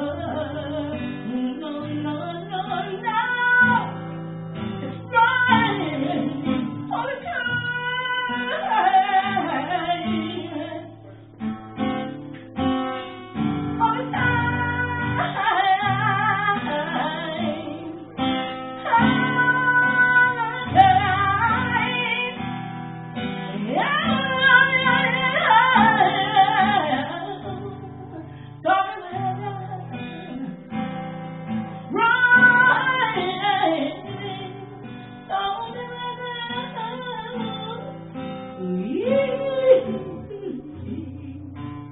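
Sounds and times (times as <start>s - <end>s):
acoustic guitar: 0.0s - 41.9s
woman singing blues: 0.0s - 41.9s.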